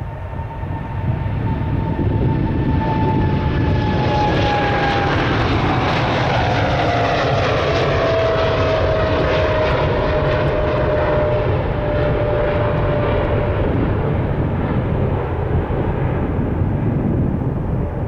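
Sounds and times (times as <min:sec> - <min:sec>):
jet engines roaring at takeoff: 0:00.0 - 0:18.0.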